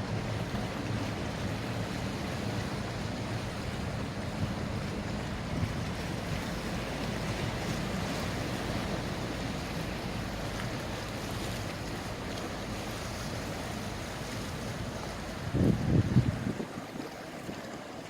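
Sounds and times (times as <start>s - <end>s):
wind buffeting microphone: 0.0s - 17.7s
water washing: 0.0s - 17.9s.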